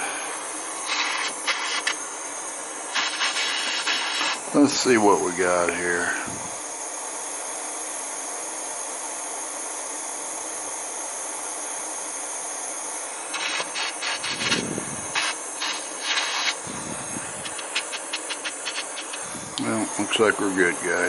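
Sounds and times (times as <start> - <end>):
gas torch hissing: 0.0 - 21.0.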